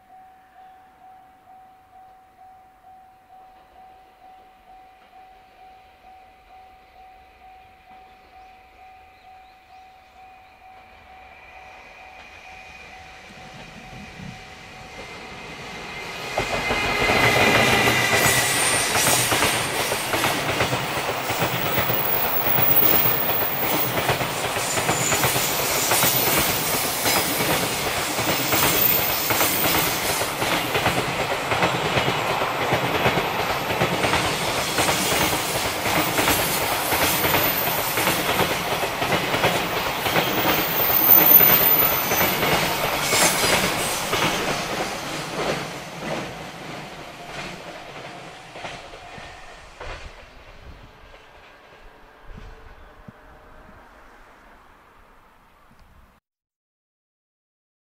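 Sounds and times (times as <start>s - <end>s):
freight train passing: 0.0s - 56.2s.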